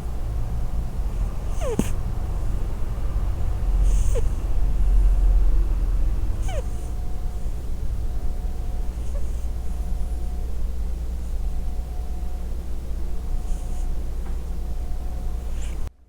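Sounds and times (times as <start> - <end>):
cat snoring: 0.8 - 12.4, 13.3 - 14.1, 14.7 - 15.9.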